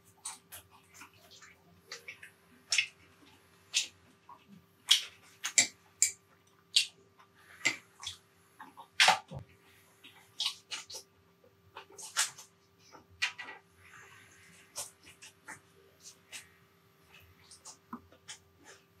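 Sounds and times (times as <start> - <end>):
chewing and smacking: 0.0 - 11.1, 11.7 - 13.6, 14.5 - 19.0.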